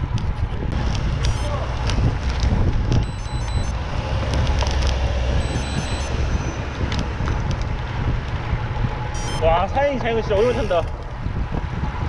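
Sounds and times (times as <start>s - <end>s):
road and tyre rumble: 0.0s - 12.0s
wind buffeting microphone: 0.0s - 12.0s.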